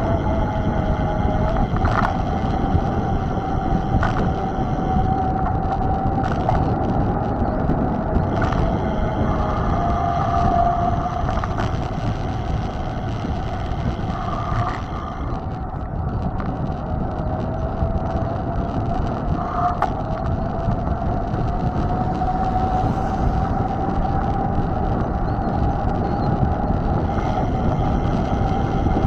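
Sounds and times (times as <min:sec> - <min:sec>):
bike tyre noise: 0:00.0 - 0:29.0
faint steady whine: 0:00.0 - 0:29.0
wind on microphone: 0:00.0 - 0:29.0.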